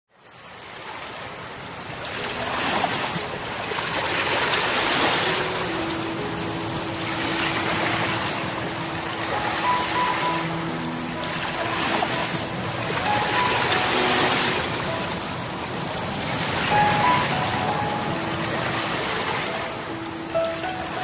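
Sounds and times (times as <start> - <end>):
ocean surf washing in: 0.3 - 21.0.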